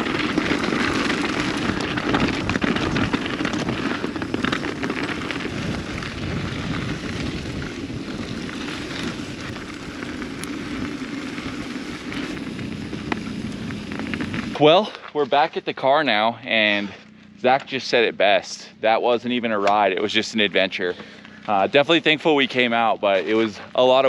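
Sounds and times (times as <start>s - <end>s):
bike rattling: 0.0s - 24.0s
bike tyres rolling on gravel: 0.0s - 24.0s.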